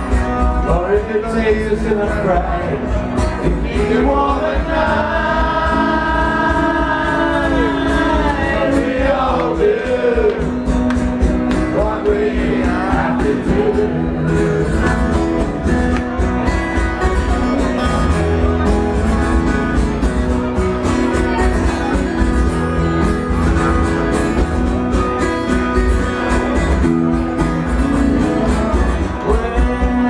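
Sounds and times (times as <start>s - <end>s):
acoustic rock instrumental: 0.0s - 30.0s
guitar chords strummed: 0.0s - 30.0s.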